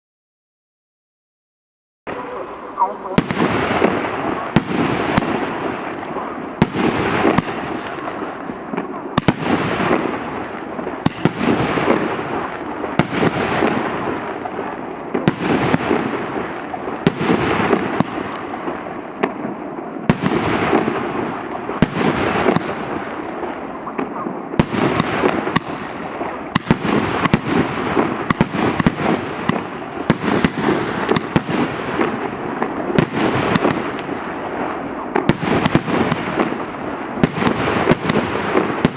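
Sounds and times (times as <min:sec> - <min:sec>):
fireworks bangs: 0:02.1 - 0:38.9.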